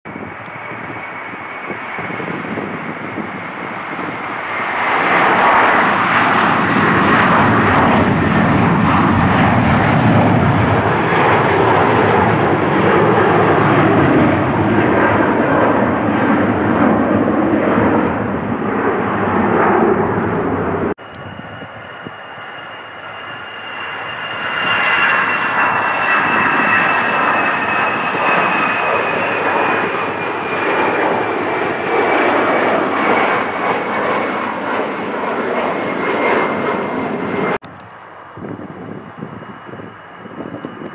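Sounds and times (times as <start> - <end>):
high engine whine: 0.1 - 40.9
jet airliner climbing away: 0.1 - 40.9
jet engines roaring: 0.1 - 40.9.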